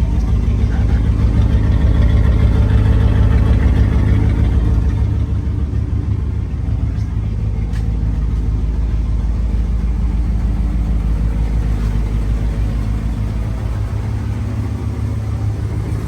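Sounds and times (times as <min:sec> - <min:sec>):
pickup engine rumbling: 0:00.0 - 0:16.0.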